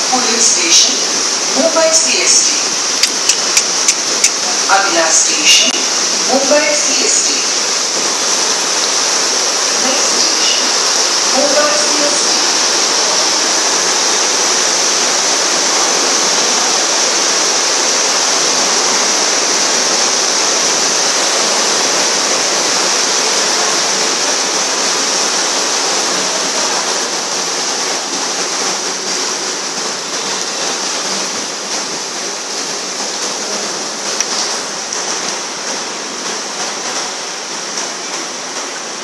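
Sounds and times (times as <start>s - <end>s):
floodwater churning and splashing: 0.0s - 39.0s.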